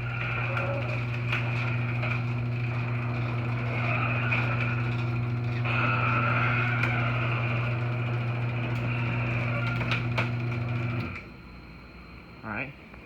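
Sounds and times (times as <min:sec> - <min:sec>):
garage door opener motor humming: 0:00.0 - 0:12.3.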